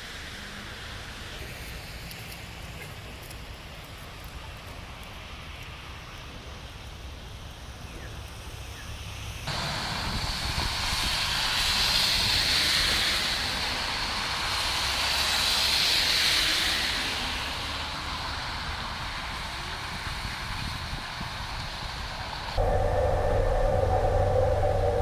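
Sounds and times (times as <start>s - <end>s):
tyres hissing on wet road: 0.0s - 22.6s.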